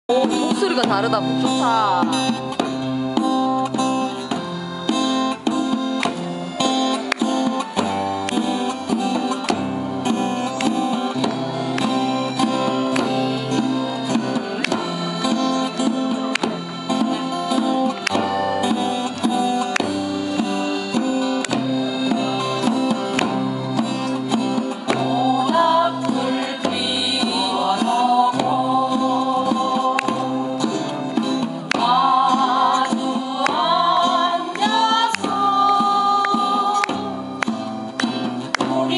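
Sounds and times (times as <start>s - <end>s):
plucked guitar music: 0.1s - 38.9s.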